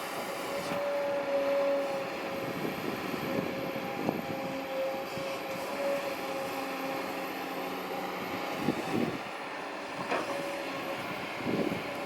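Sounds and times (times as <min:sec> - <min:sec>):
excavator engine and hydraulics whine: 0:00.0 - 0:12.0.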